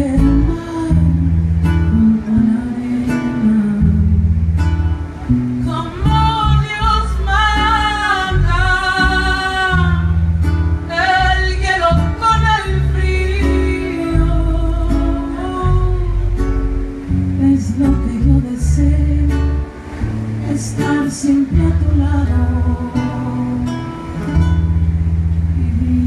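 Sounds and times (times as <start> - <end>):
woman singing: 0.0 - 4.4, 5.6 - 16.4, 17.3 - 24.4, 25.5 - 26.0
deep bass notes: 0.0 - 26.0
strummed guitar: 0.0 - 26.0.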